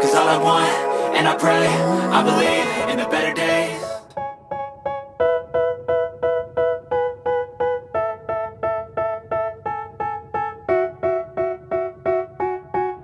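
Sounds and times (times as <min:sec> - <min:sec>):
piano chords struck evenly: 0:00.0 - 0:13.0.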